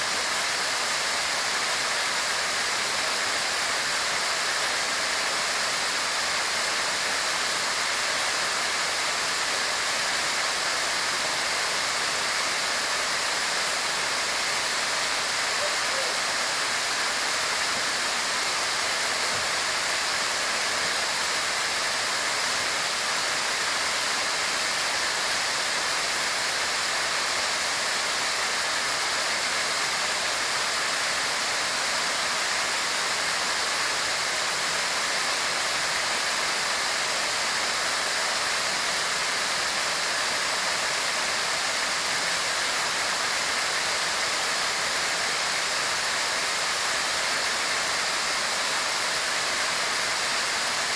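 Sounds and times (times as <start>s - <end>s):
waterfall roaring: 0.0s - 50.9s.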